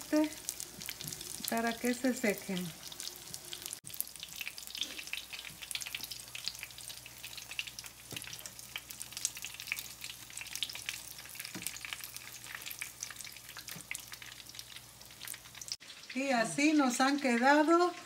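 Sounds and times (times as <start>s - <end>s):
food frying in hot oil: 0.0s - 18.0s.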